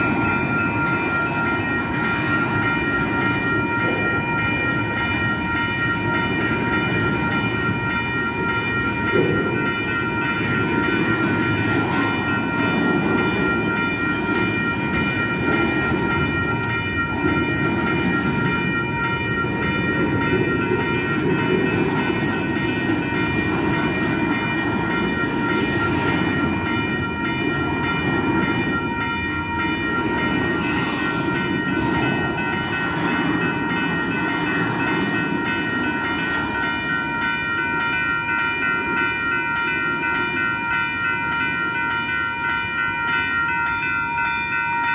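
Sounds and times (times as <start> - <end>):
freight train wheels rumbling: 0.0 - 44.9
high ringing tone: 0.0 - 44.9.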